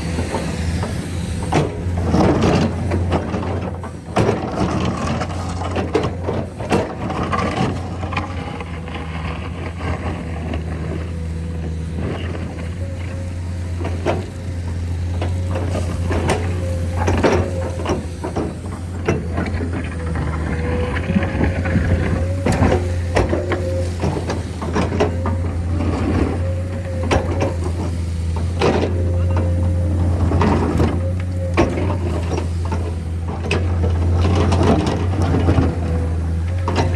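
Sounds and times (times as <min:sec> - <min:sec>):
diesel engine droning: 0:00.0 - 0:36.9
machinery whine: 0:00.0 - 0:36.9.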